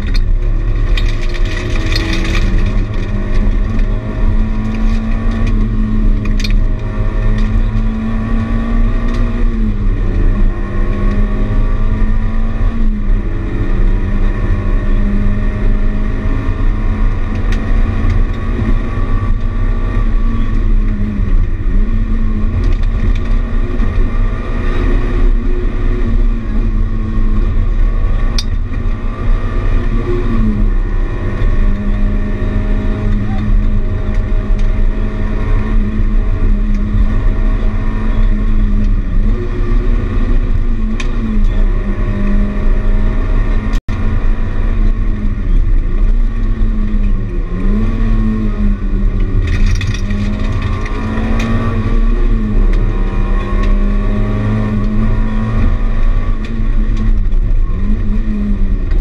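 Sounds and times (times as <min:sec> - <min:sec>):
car engine running hard: 0:00.0 - 0:59.0
road and tyre rumble: 0:00.0 - 0:59.0.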